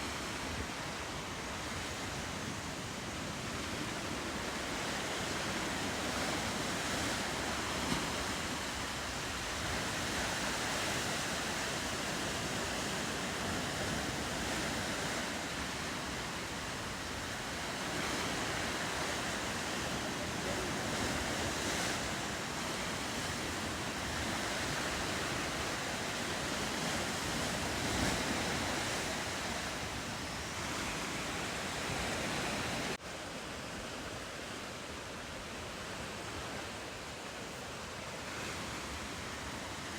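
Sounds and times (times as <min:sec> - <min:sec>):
ocean surf washing: 0:00.0 - 0:39.9
wind: 0:00.0 - 0:39.9.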